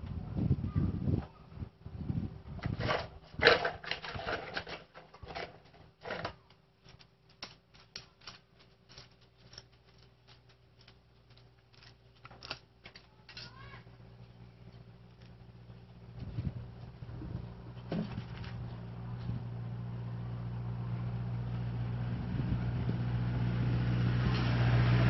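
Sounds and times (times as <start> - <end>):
faint steady hum: 0.0 - 23.5.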